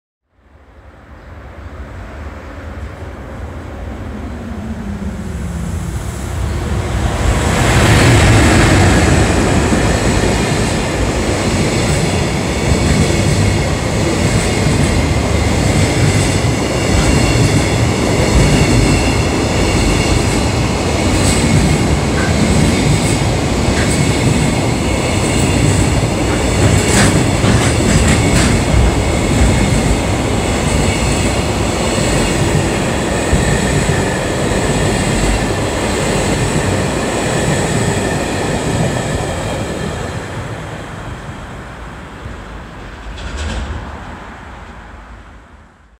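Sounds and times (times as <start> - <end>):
freight train passing: 0.4 - 45.9.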